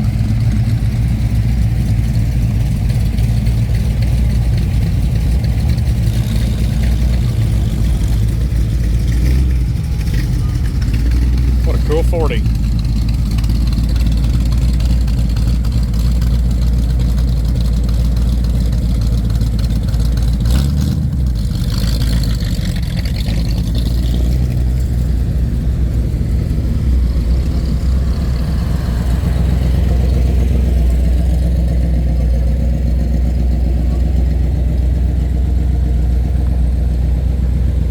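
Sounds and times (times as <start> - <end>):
car engine rumbling: 0.0 - 37.9.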